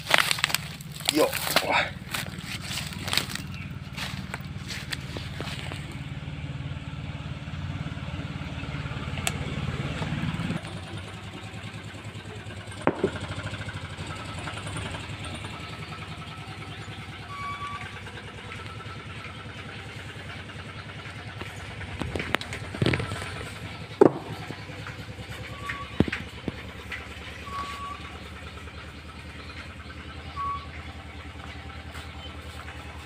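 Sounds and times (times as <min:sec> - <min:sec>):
engine idling: 0:00.0 - 0:33.0
faint engine running: 0:00.0 - 0:33.0.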